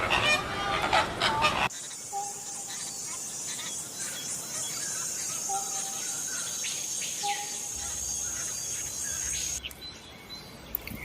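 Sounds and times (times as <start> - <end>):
falling bird calls: 0.0 - 11.0.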